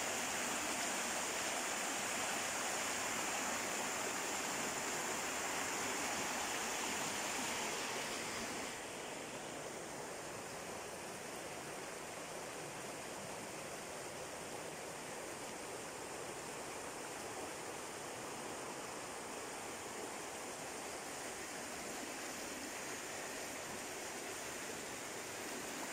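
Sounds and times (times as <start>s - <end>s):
river water rushing: 0.0s - 25.9s.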